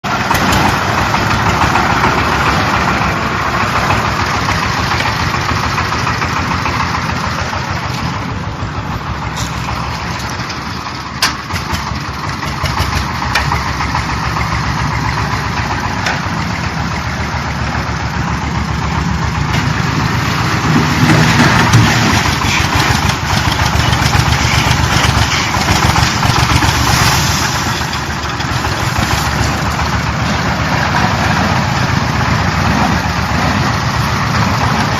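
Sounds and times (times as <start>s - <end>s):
concrete mixer running: 0.0s - 34.9s.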